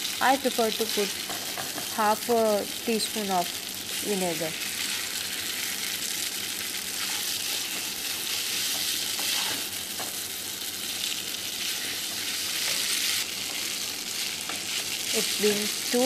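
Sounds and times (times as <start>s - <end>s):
food sizzling in a hot pan: 0.0s - 16.0s.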